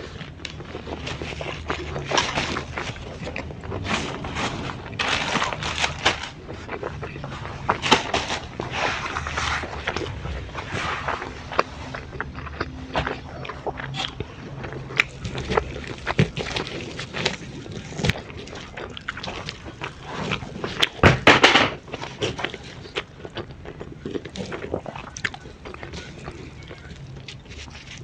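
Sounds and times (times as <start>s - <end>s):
close chewing and mouth sounds: 0.0s - 28.0s.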